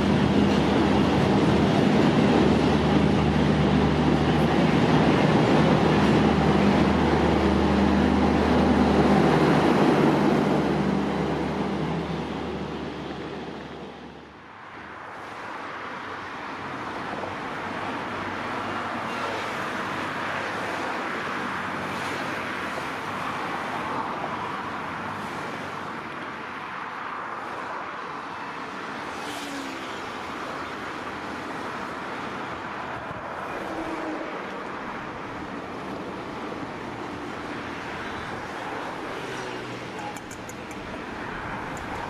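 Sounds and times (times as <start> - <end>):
road traffic rushing: 0.0 - 42.0.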